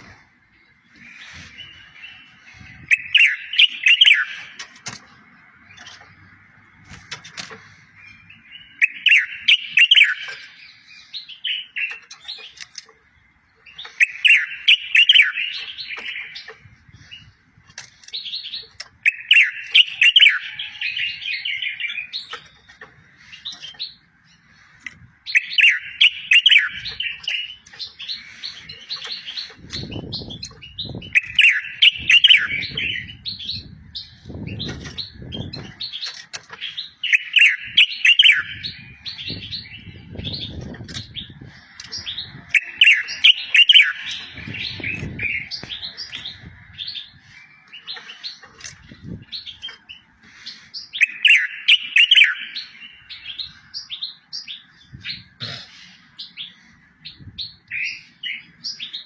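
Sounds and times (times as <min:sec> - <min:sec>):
songbird trills: 0:00.0 - 0:59.0.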